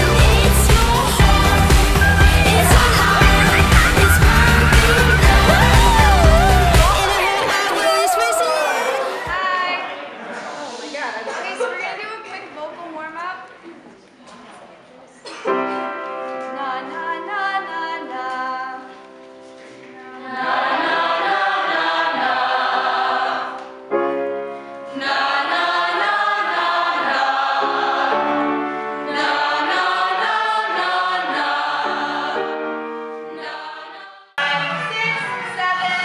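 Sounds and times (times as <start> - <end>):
group of singers holding notes: 0.0 - 11.0, 16.8 - 35.6.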